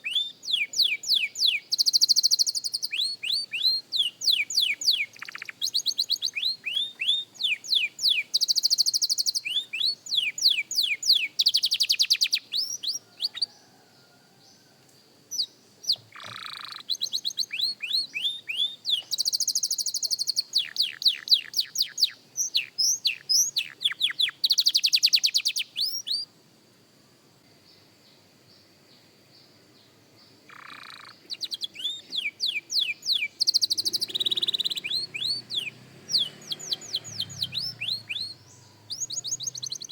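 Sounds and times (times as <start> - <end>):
canary singing trills: 0.0 - 13.6, 15.3 - 26.3, 30.2 - 39.9.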